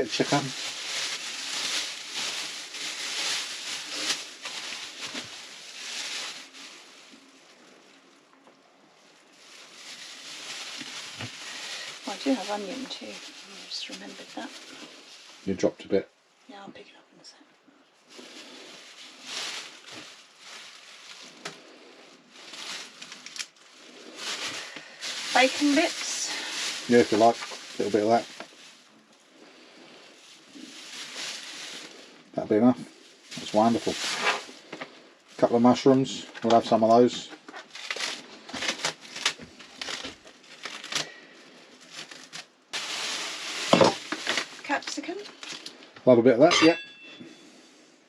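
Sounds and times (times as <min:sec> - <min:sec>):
rustling and handling food: 0:00.0 - 0:16.6, 0:17.6 - 0:48.0.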